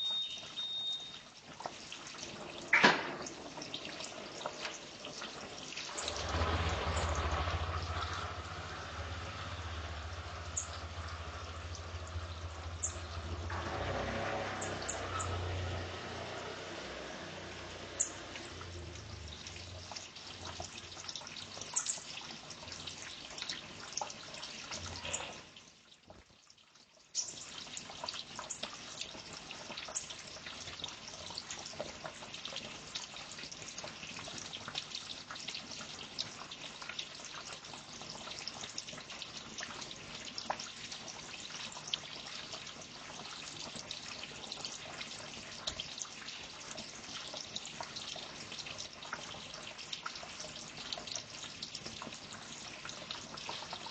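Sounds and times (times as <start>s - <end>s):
water trickling and dripping: 0.0s - 53.9s.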